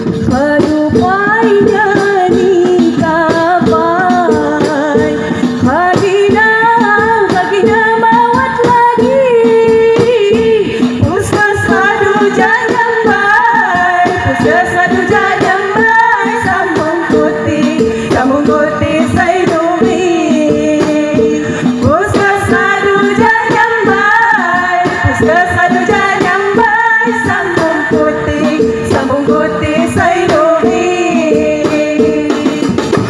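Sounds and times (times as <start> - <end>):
frame drums: 0.0 - 33.0.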